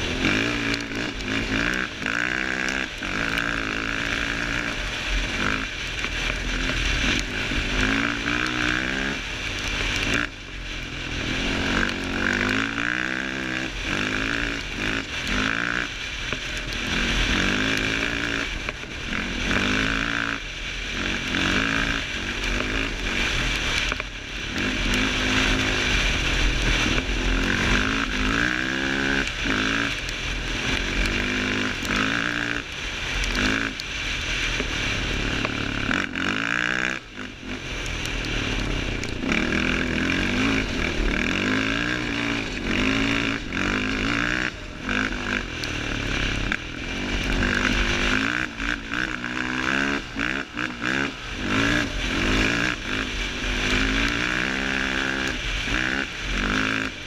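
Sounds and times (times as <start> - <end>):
gravel noise: 0.0 - 57.0
quad engine revving: 0.0 - 57.0
rush of wind: 0.0 - 57.0.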